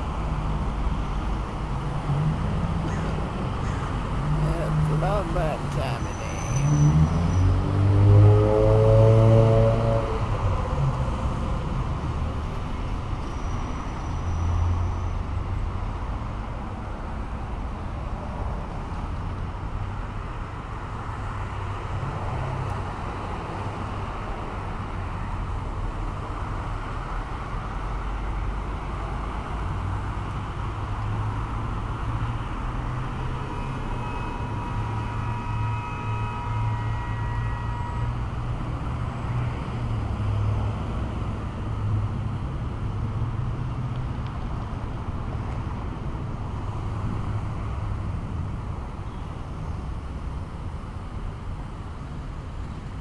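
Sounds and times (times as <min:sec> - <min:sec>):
cars passing with low rumble: 0:00.0 - 0:53.0.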